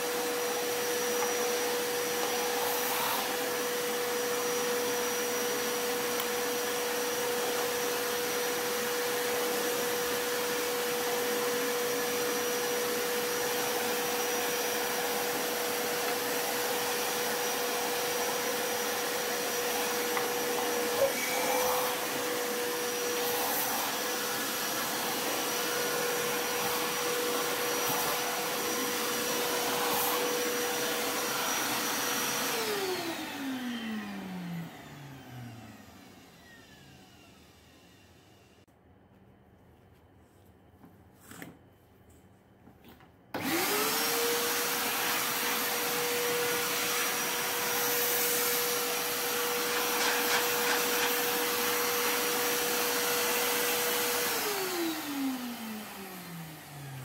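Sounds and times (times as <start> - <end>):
vacuum motor winding down: 0.0 - 38.5, 43.4 - 57.0
vacuum cleaner whining: 0.0 - 38.7, 43.3 - 57.0.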